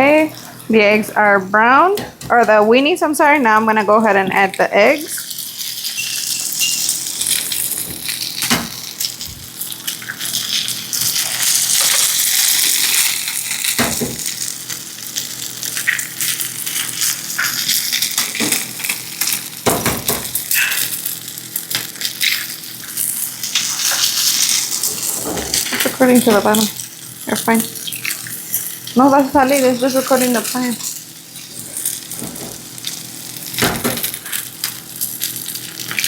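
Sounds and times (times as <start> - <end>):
food sizzling in hot oil: 3.2 - 36.0.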